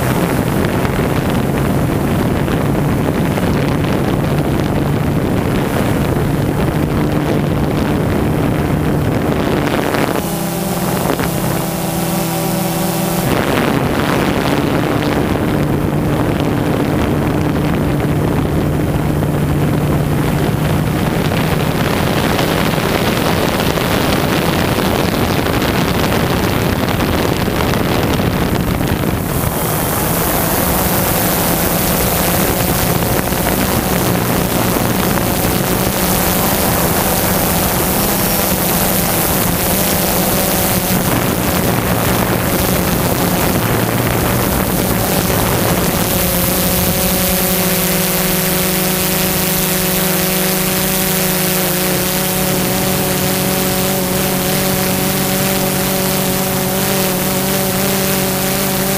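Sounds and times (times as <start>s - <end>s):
drone motors humming: 0.0s - 58.9s
wind noise: 0.0s - 58.9s.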